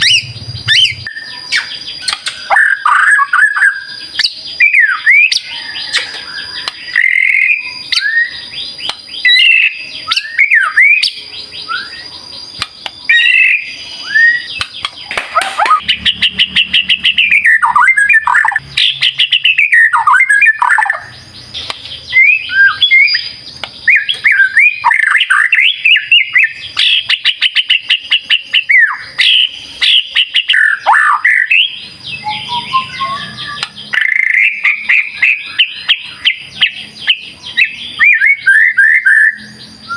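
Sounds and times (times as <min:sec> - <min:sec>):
songbird whistling and chirping: 0:00.0 - 0:39.9.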